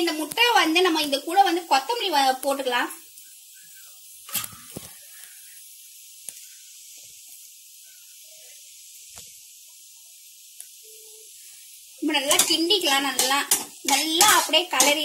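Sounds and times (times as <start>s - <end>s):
egg mixture sizzling in a pan: 0.0s - 15.0s.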